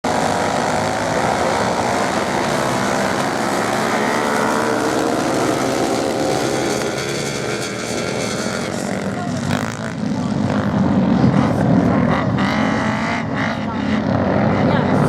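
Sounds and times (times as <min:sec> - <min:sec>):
motorcycle engines at high revs: 0:00.0 - 0:15.0.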